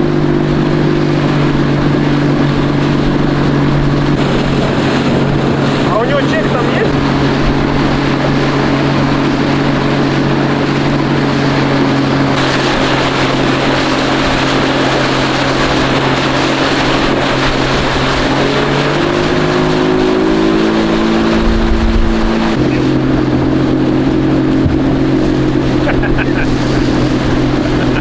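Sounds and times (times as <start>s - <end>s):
outboard motor drone: 0.0s - 28.0s
rushing water: 0.0s - 28.0s
wind: 0.0s - 28.0s.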